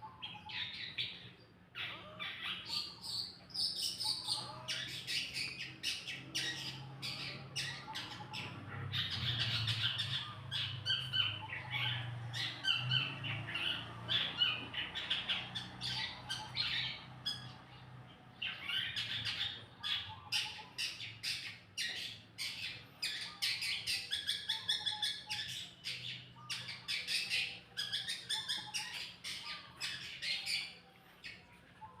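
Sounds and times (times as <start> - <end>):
songbird chirps and trills: 0.0 - 32.0.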